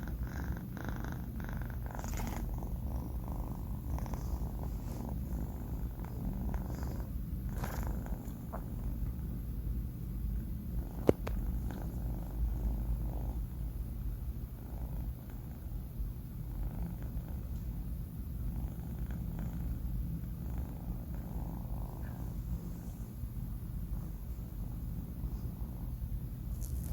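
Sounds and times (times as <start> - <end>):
kitten purring: 0.0 - 9.5, 10.2 - 26.9.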